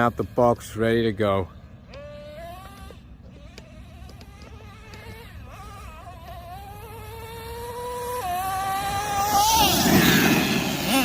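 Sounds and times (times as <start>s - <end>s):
small engine buzzing at high revs: 0.0s - 11.0s.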